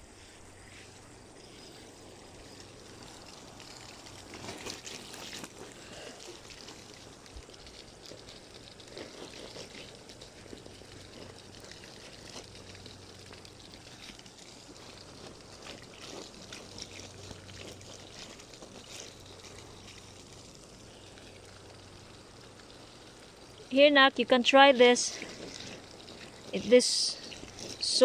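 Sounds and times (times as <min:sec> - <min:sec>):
water trickling onto plastic mat: 0:01.6 - 0:28.0.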